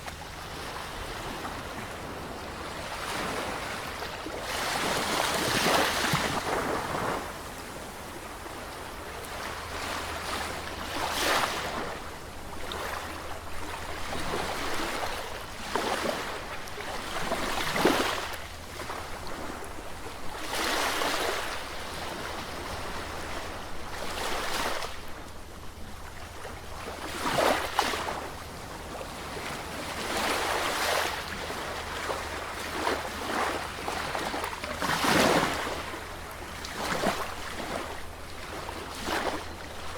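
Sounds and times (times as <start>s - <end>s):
sea waves breaking on shore: 0.0s - 25.2s, 26.0s - 39.9s.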